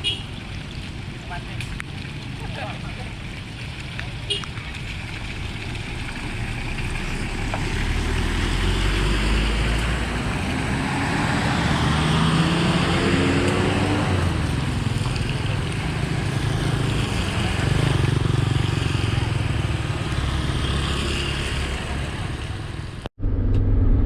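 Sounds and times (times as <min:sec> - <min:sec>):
traffic noise: 0:00.0 - 0:23.1.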